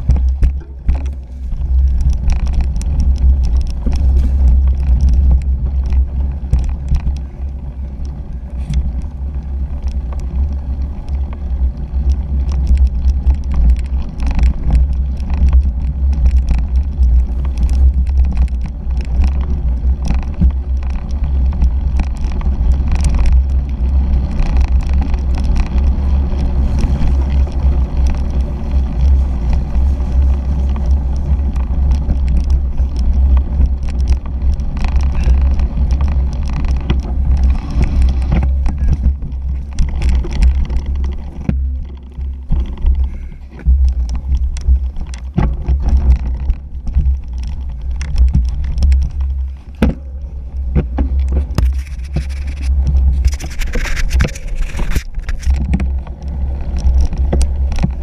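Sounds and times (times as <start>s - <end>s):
bike rattling and clicking: 0.0s - 58.0s
wind and vibration rumble: 0.0s - 58.0s.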